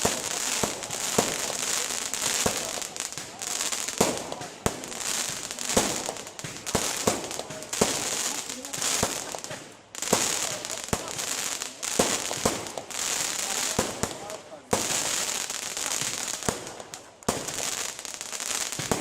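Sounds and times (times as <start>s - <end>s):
firework crackling: 0.0s - 19.0s.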